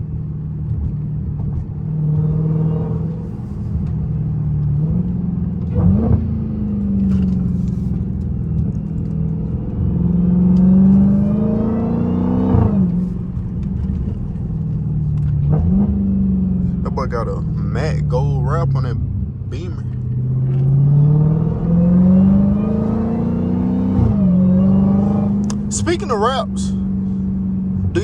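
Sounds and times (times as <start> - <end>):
car engine revving: 0.0 - 28.0
supercharger whine: 0.0 - 28.0.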